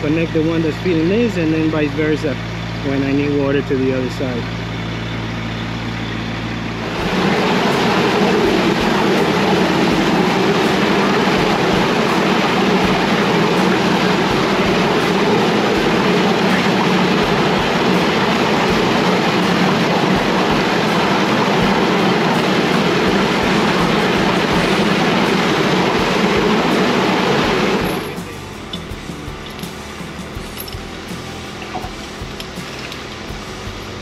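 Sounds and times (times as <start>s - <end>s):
steady rushing noise of sewer jetter: 0.0s - 34.0s
truck engine idling: 0.0s - 34.0s.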